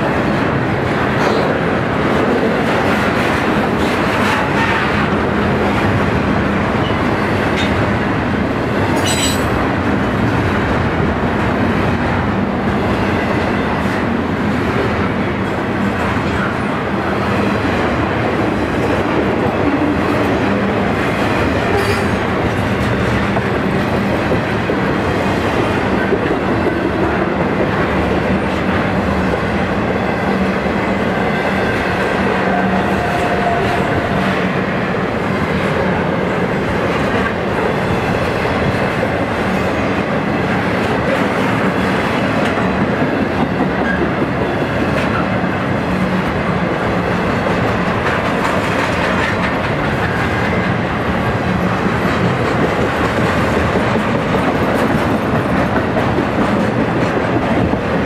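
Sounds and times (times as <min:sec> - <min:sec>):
train wheels rumbling and clattering: 0:00.0 - 0:58.0.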